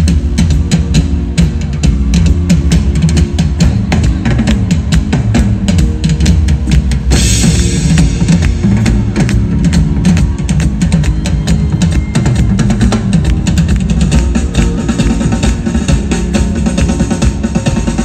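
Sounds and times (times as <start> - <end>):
rock drums playing: 0.0 - 18.0.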